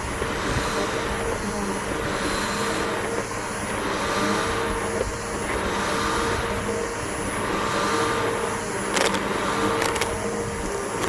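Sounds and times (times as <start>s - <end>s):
vacuum cleaner motor whining: 0.0s - 11.0s.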